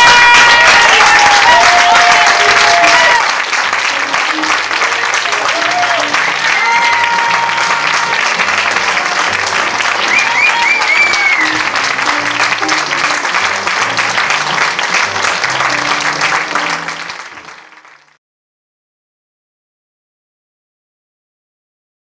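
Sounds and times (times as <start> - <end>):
audience applauding: 0.0 - 18.2
closing music: 0.0 - 18.2.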